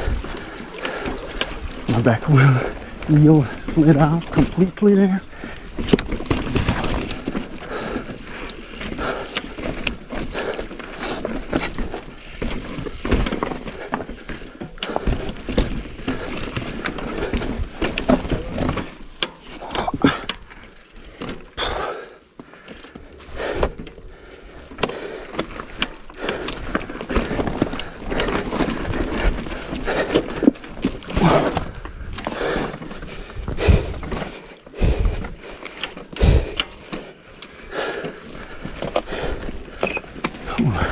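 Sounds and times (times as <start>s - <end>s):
bike knocks and rattles: 0.0s - 40.9s
bike tyres crunching over gravel: 0.0s - 40.9s.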